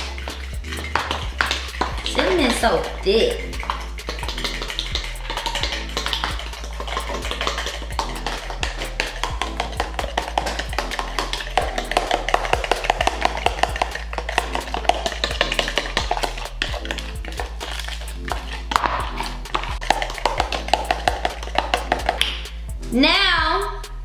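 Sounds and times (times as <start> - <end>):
whisk clicking against plastic bowl: 0.0 - 22.5
background music bass line: 0.0 - 24.0.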